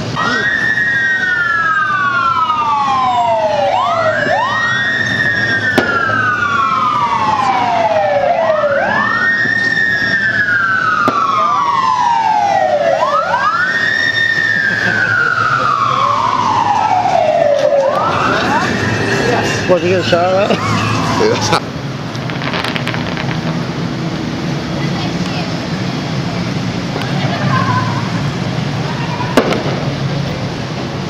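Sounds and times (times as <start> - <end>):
emergency siren wailing: 0.0 - 31.0.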